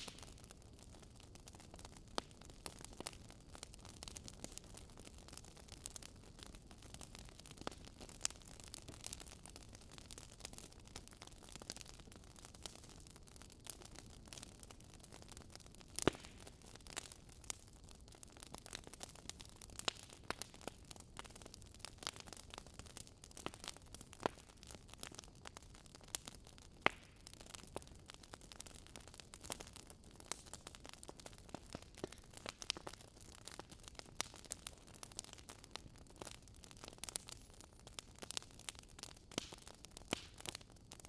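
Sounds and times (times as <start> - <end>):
fire pops and snaps: 0.0 - 41.0
wood fire crackling: 0.0 - 41.0.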